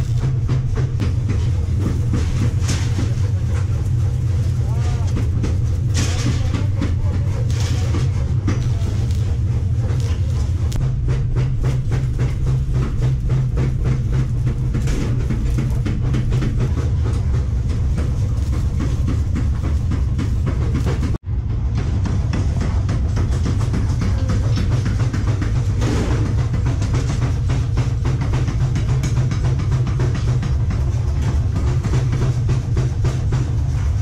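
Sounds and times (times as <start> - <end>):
low machine drone: 0.0 - 34.0
rapid crackling and ticking: 0.0 - 34.0.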